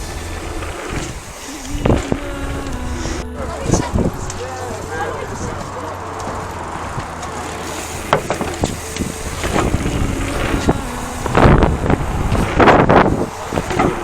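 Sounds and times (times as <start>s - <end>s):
bike clicks and rattles: 0.0s - 14.0s
bike rumbling on dirt trail: 0.0s - 14.0s
loud rushing bursts: 0.0s - 14.0s
wind buffeting microphone: 0.0s - 14.0s.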